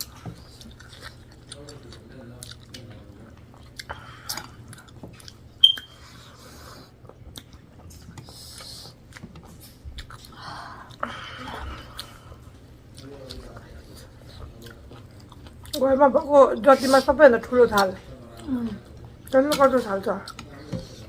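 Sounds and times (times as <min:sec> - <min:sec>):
close chewing and mouth sounds: 0:00.0 - 0:21.0.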